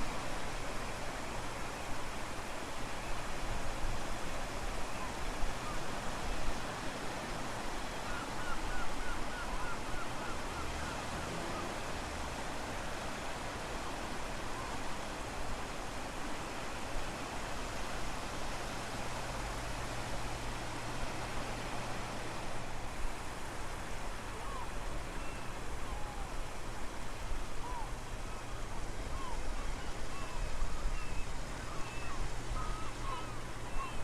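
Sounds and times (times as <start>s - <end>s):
ocean surf: 0.0s - 34.0s.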